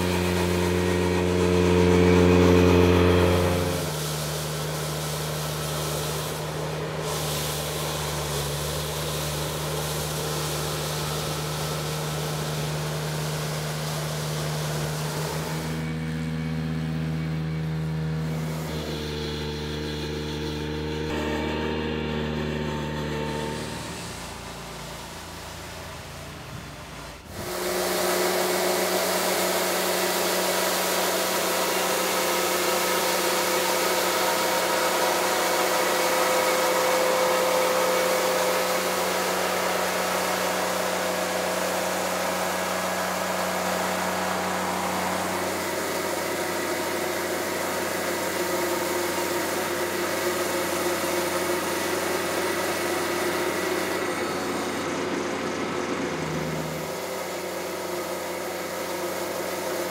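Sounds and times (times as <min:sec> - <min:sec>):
power broom brush sweeping ground: 0:00.0 - 0:59.9
tractor engine running: 0:00.0 - 0:59.9.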